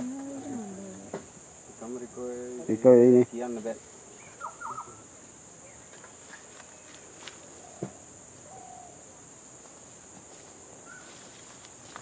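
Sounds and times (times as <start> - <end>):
higher insect drone: 0.0 - 12.0
insects droning: 0.0 - 12.0.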